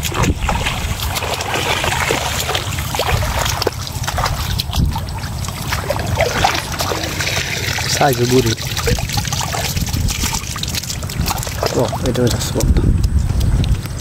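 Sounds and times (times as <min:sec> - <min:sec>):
water splashing and trickling: 0:00.0 - 0:14.0
wind rumble on microphone: 0:00.0 - 0:14.0.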